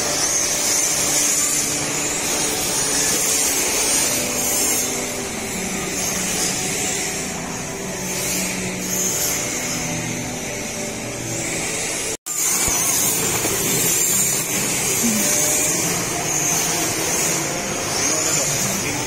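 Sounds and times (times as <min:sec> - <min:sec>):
rc car motors whirring: 0:00.0 - 0:19.0.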